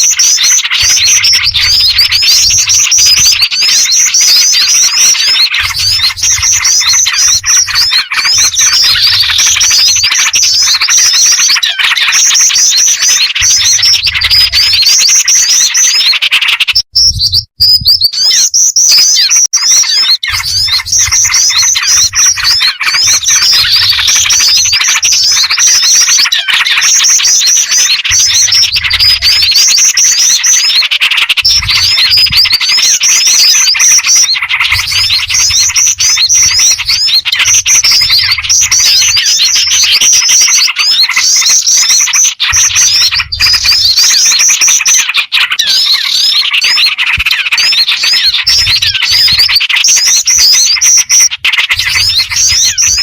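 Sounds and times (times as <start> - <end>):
songbirds chirping and twittering: 0.0 - 53.0.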